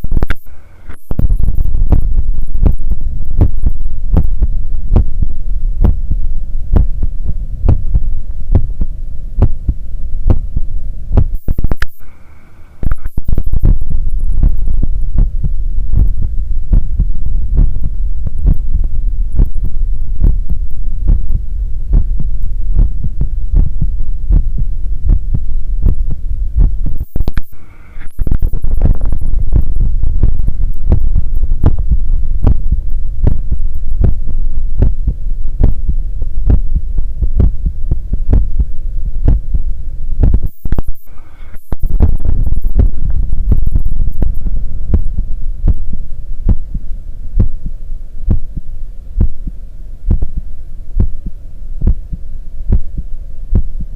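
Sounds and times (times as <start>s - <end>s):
heartbeat through a stethoscope: 0.0s - 12.2s, 12.8s - 53.9s
low hum: 0.0s - 53.9s.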